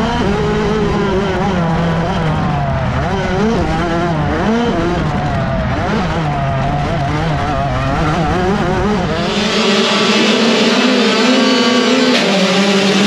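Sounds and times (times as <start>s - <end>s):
dirt bike engine revving: 0.0s - 13.0s
mini motocross bikes at high revs: 0.0s - 13.0s.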